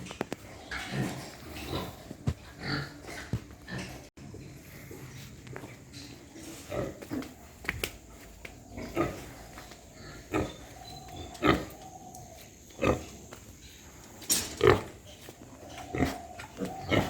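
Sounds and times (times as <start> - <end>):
pigs grunting: 0.0 - 7.6, 8.6 - 13.3, 14.0 - 17.0.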